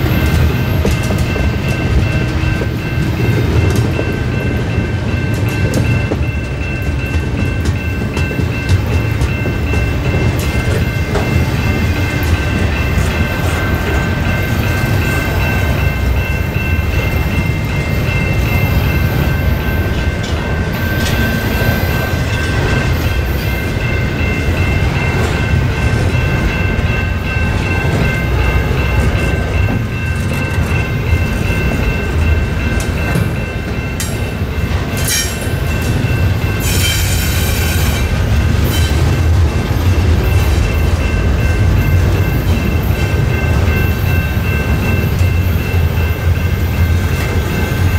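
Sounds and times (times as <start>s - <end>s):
steel wheels rumbling on rail: 0.0s - 47.9s.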